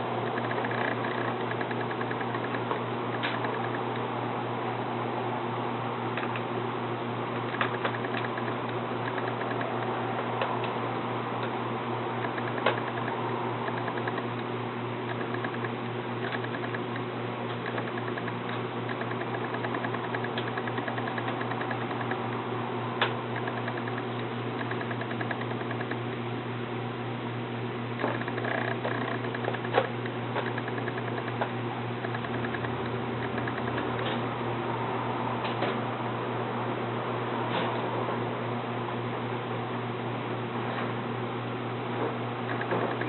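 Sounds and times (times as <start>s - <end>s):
low fan hum: 0.0s - 43.0s.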